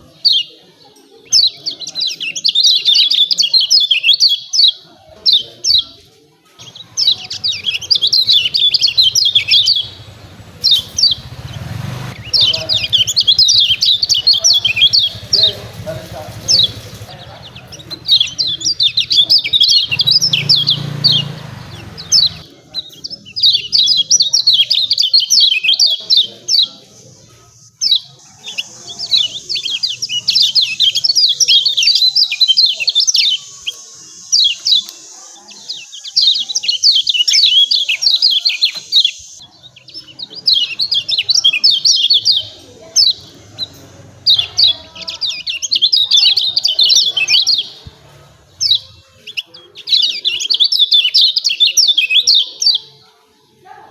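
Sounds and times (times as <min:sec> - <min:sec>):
bird chirping calls: 0:00.0 - 0:53.9.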